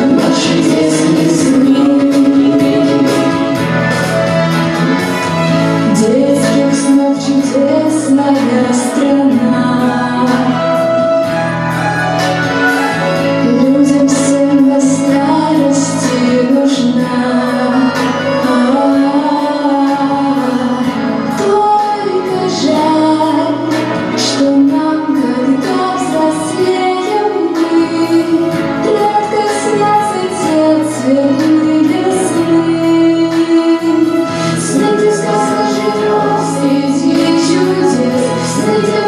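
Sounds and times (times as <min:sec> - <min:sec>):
woman singing: 0:00.0 - 0:04.1, 0:05.0 - 0:39.0
music with held bass notes: 0:00.0 - 0:39.0.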